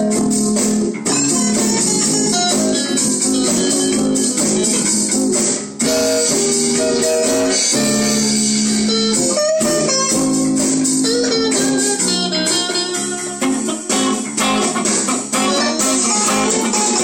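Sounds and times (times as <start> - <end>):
blues-rock guitars jamming: 0.0 - 17.0.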